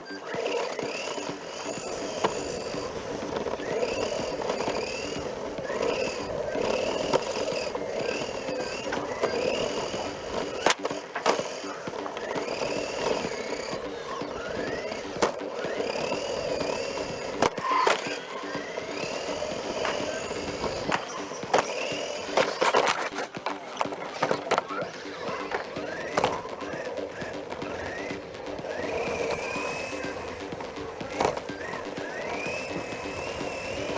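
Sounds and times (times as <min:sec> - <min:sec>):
electric motor whining: 0:00.0 - 0:33.9
tyres rolling on carpet: 0:00.1 - 0:33.9.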